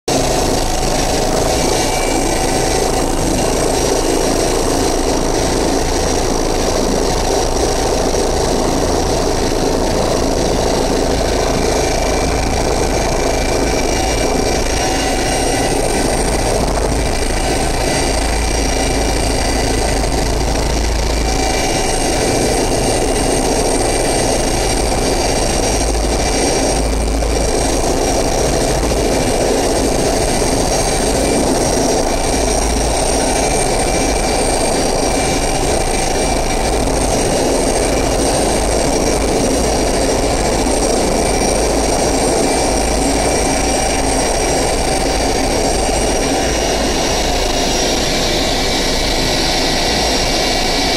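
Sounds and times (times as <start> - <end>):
helicopter rotors and turbines: 0.0 - 50.9.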